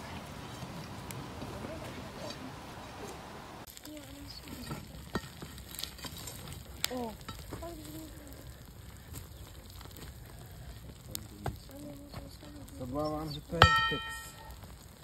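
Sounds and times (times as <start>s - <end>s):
charcoal crackling and sizzling: 0.0s - 15.0s.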